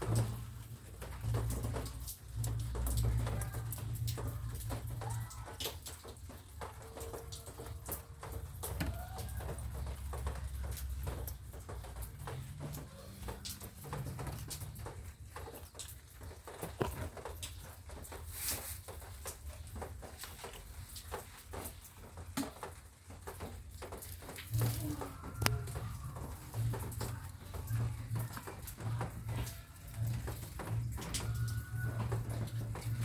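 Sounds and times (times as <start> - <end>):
rain drops pattering: 0.0 - 33.0.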